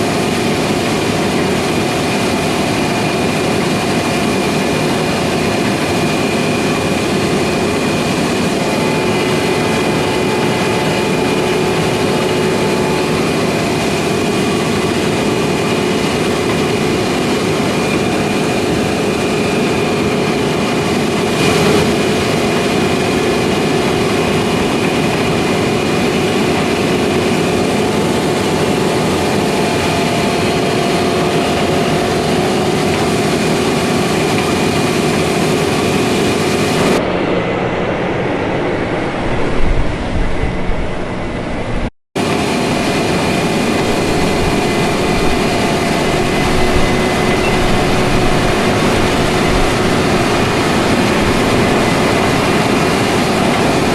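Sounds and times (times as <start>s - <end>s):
heavy machinery running: 0.0s - 53.9s.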